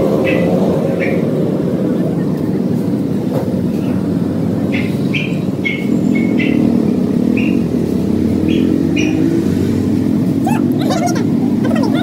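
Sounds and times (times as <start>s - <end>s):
road traffic rumble: 0.0s - 12.0s
vehicle engine humming: 0.0s - 12.0s.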